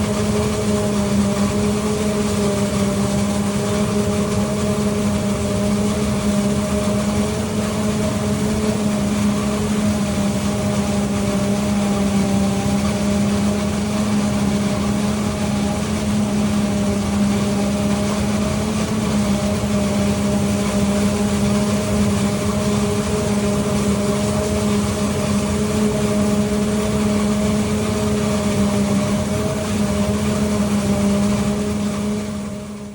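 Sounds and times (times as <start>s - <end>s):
harvester engine humming: 0.0s - 32.9s.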